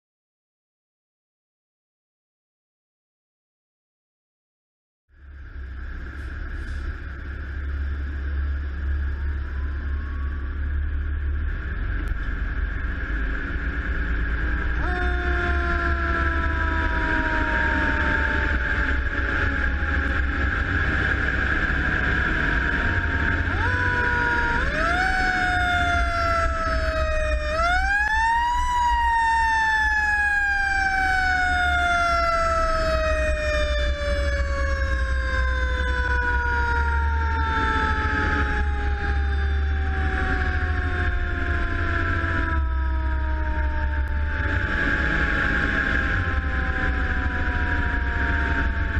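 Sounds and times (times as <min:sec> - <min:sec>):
diesel truck engine rumble: 0:05.1 - 0:48.9
fire engine siren wailing: 0:05.2 - 0:48.9.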